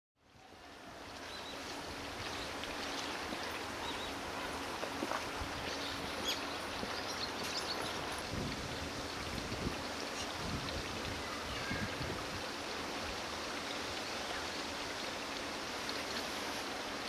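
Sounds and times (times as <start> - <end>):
outdoor background noise: 0.2 - 17.0.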